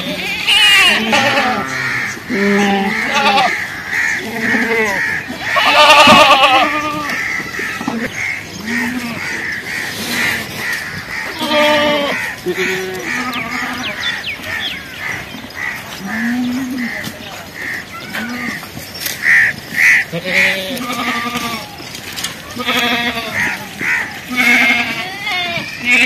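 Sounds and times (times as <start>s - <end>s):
goats bleating: 0.0s - 26.0s.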